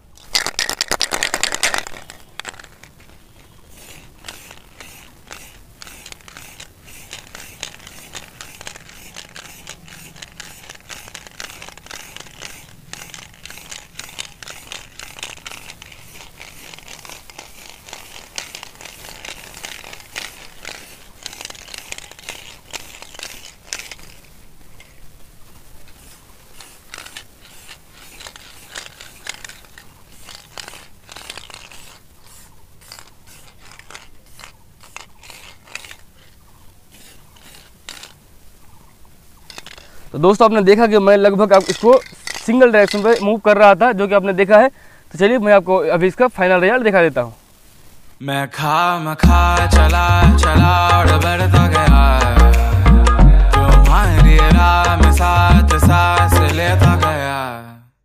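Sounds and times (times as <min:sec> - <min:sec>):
spray crackles and sputters: 0:00.0 - 0:48.2, 0:49.2 - 0:52.7, 0:53.6 - 0:57.2
spray paint can hissing: 0:00.2 - 0:24.9, 0:25.8 - 0:38.2, 0:39.5 - 0:43.7, 0:49.2 - 0:57.3.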